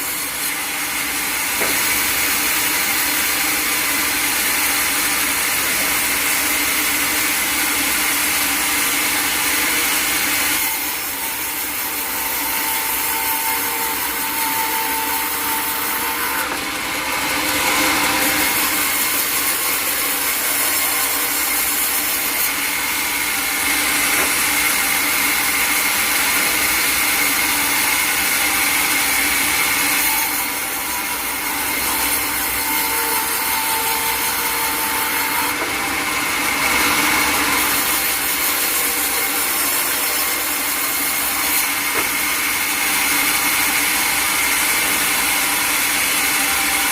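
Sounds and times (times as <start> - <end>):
sawmill saw cutting log: 0.0 - 46.9.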